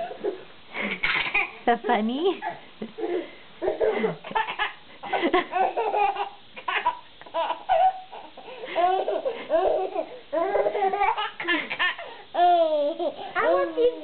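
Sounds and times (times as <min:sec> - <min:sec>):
baby laughing: 0:02.4 - 0:13.9.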